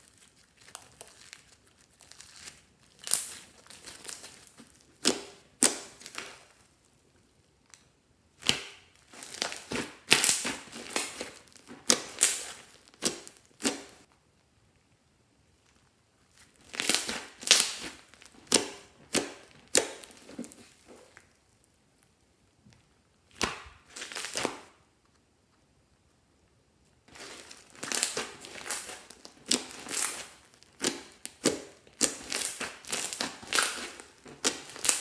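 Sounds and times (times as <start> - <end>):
slime crackling and squelching: 0.0 - 7.4, 8.3 - 14.2, 15.5 - 22.1, 23.2 - 24.8, 27.0 - 35.0.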